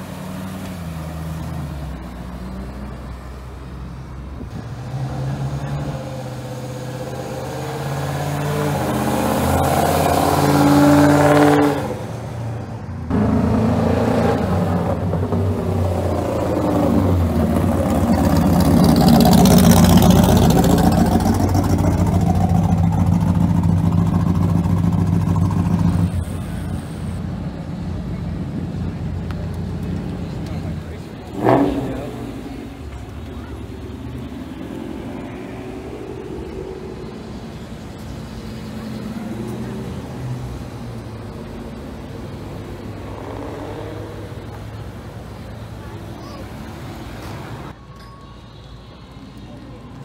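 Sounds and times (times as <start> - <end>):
car engines driving past: 0.0 - 47.8.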